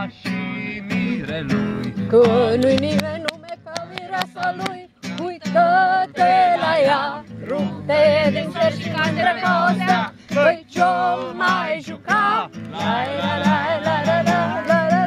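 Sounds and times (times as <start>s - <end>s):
strummed acoustic guitar: 0.0s - 15.0s
person singing: 1.9s - 15.0s.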